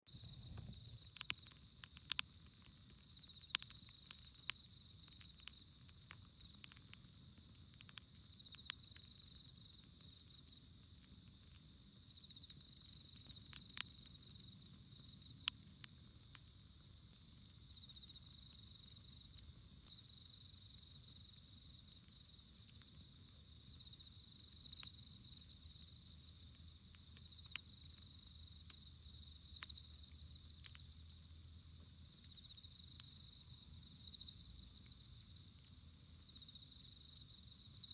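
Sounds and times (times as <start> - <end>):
campfire crackling and popping: 0.1 - 37.9
night insects trilling: 0.1 - 37.9.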